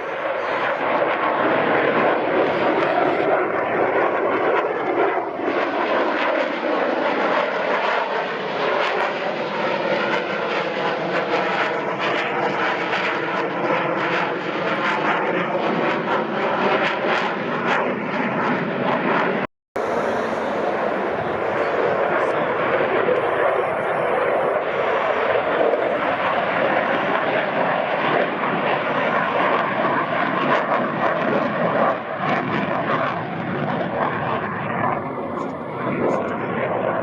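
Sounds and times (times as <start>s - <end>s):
jet engine roar: 0.0s - 37.0s.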